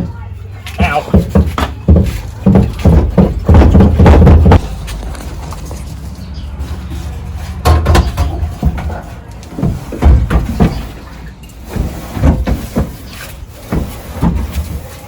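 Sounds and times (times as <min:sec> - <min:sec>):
fuel tank clunks and scrapes: 0:00.8 - 0:15.0.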